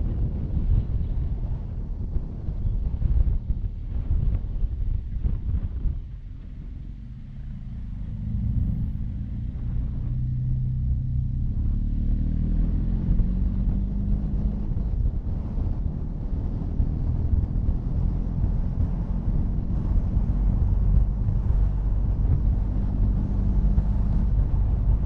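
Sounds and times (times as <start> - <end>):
motorcycle engine running: 0.0 - 12.2, 12.8 - 25.0
wind noise: 0.0 - 25.0.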